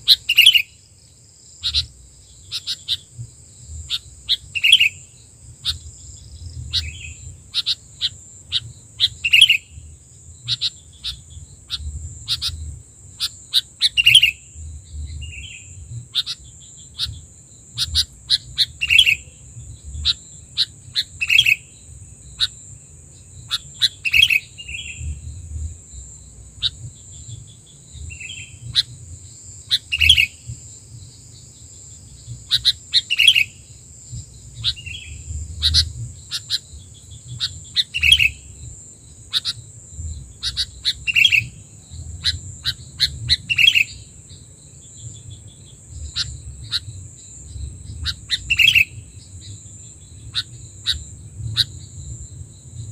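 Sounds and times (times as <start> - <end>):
bird chirping: 0.0 - 52.9.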